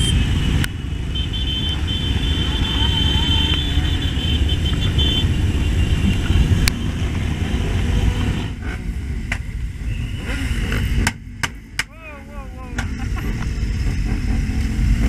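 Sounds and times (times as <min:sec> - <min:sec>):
motorcycles rumbling: 0:00.0 - 0:15.0.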